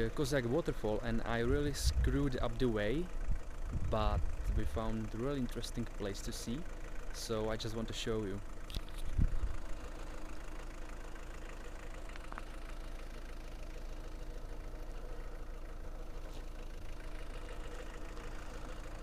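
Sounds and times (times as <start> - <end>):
car engine running steadily: 0.0 - 19.0.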